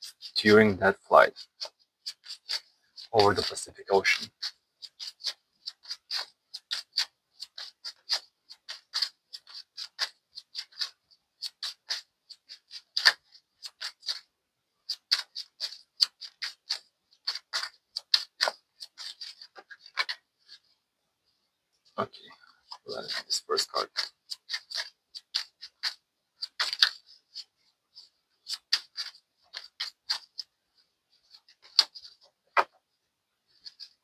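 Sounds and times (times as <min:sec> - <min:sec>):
cards being shuffled by hand: 0:00.0 - 0:20.8, 0:22.4 - 0:32.9, 0:33.5 - 0:34.0.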